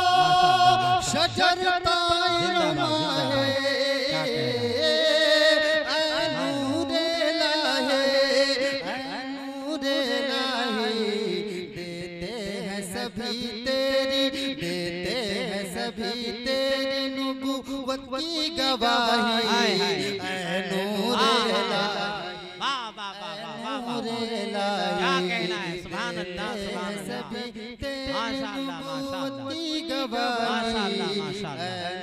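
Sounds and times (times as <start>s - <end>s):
man singing into microphone: 0.0s - 32.0s.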